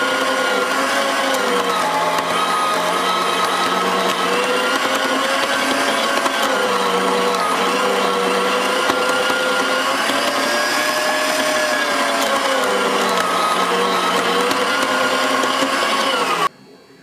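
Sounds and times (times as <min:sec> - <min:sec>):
meat grinder motor whine: 0:00.0 - 0:16.5.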